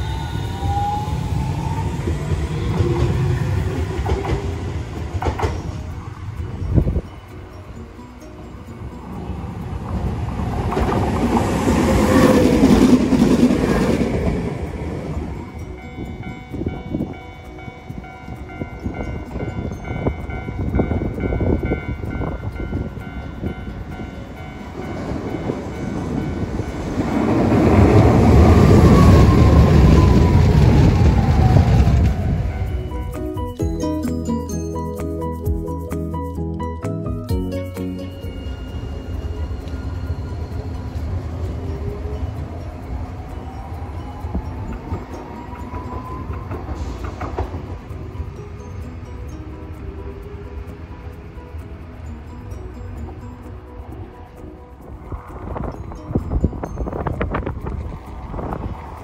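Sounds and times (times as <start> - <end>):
wind buffeting microphone: 0.0 - 7.9, 8.6 - 33.4, 39.4 - 59.0
tram wheels rumbling on rails: 0.0 - 59.0.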